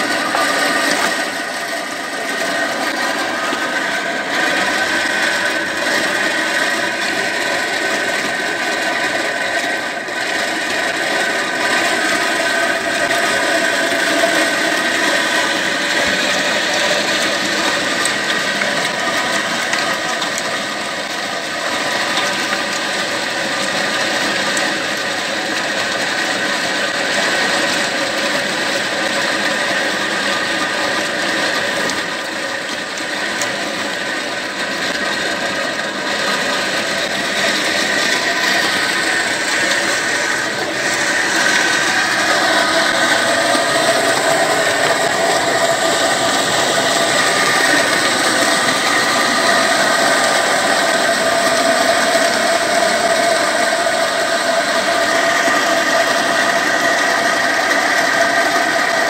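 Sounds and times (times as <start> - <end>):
diesel engine and belt drive clatter: 0.0 - 59.0
steady hum: 0.0 - 59.0.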